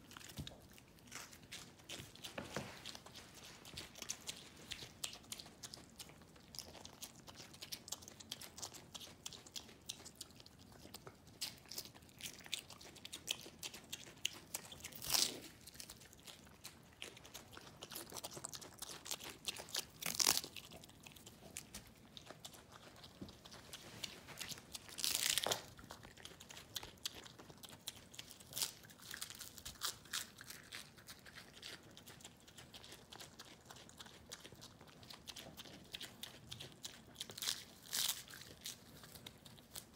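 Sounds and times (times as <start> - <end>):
pig crunching lettuce: 0.0 - 39.9.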